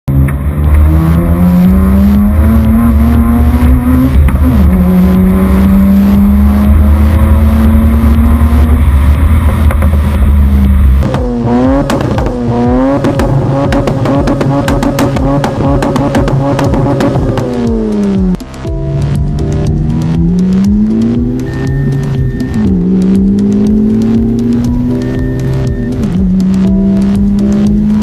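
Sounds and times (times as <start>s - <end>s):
car engine accelerating hard: 0.1s - 28.0s.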